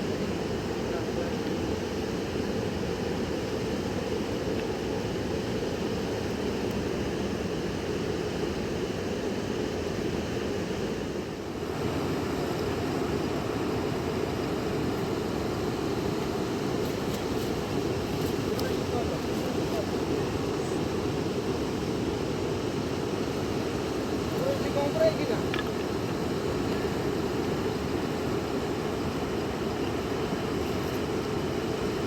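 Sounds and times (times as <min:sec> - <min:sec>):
fast river rushing: 0:05.0 - 0:32.0.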